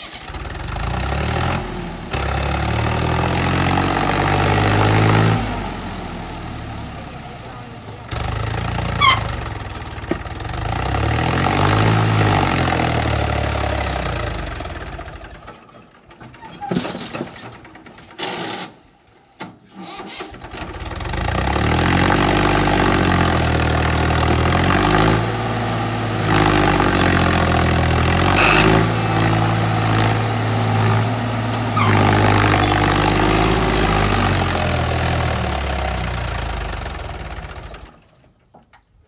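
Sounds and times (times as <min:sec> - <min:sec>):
tractor diesel engine revving: 0:00.0 - 0:15.6, 0:20.1 - 0:38.1.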